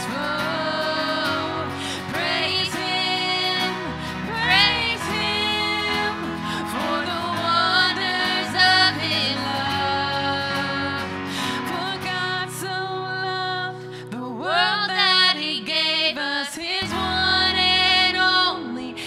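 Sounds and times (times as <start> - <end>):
strummed acoustic guitar: 0.0 - 16.0, 16.8 - 19.0
women singing worship song: 0.0 - 19.0.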